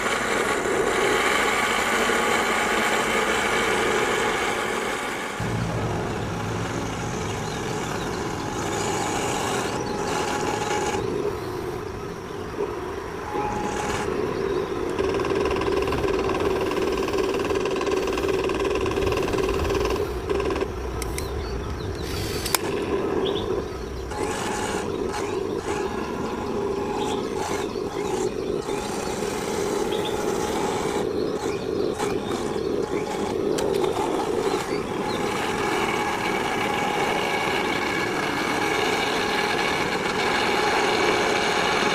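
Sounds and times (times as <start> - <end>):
simulated tank engine rumble: 0.0 - 41.9.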